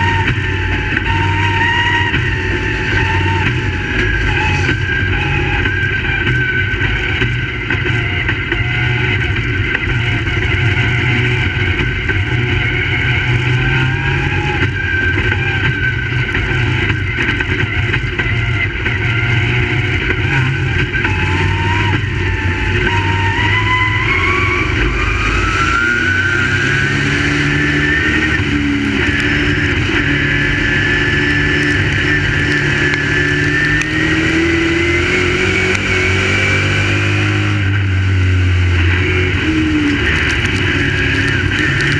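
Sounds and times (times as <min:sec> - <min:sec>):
race car engines accelerating: 0:00.0 - 0:41.9.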